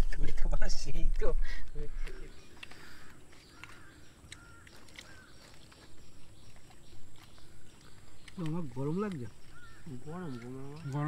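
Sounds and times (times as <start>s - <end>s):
faint bird chirps: 0.2s - 11.0s.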